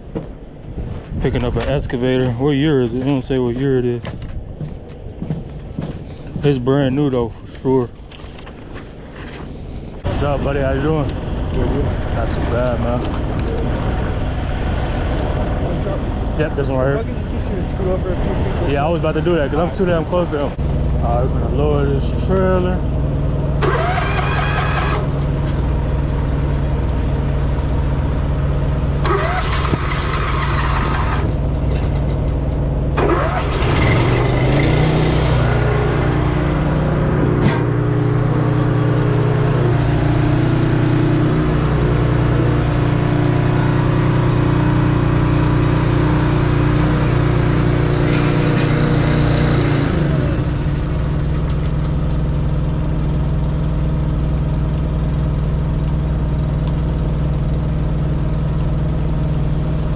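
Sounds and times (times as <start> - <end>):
diesel truck engine running: 8.8 - 59.9
second engine whine: 10.0 - 59.9.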